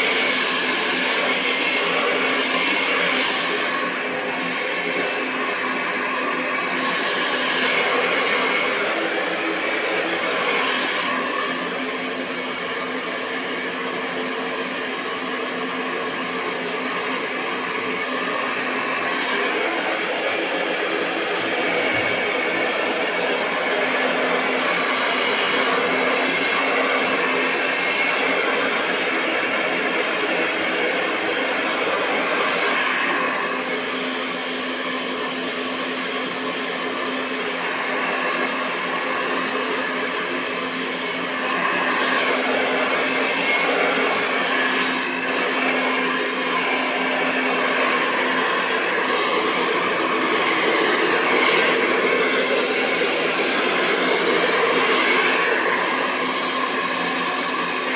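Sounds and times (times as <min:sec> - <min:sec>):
hair dryer running: 0:00.0 - 0:57.9.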